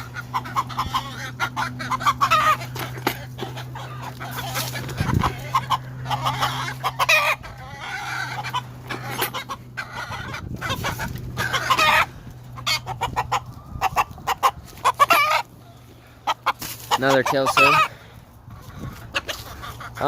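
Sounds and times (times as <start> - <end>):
roosters clucking and calling: 0.0 - 20.0.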